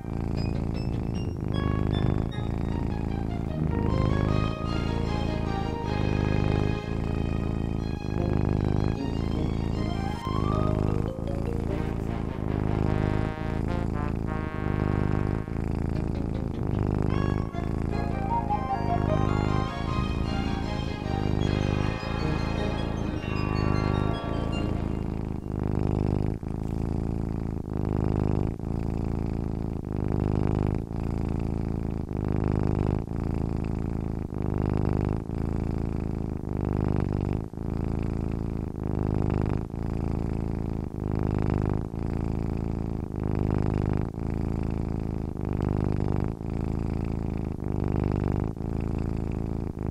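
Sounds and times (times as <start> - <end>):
cat purring: 0.0 - 49.9.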